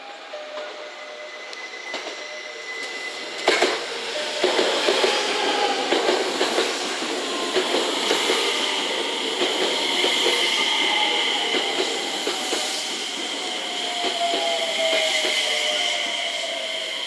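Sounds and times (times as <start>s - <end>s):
high-pitched train whine: 0.0s - 17.0s
train wheels clicking on rail joints: 1.5s - 15.6s.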